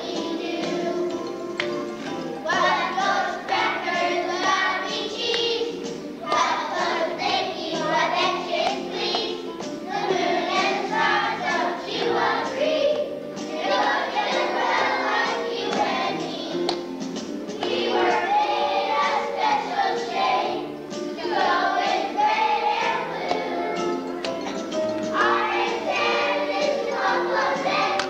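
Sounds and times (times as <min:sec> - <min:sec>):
children's choir singing: 0:00.0 - 0:28.0
instrumental accompaniment: 0:00.0 - 0:28.0.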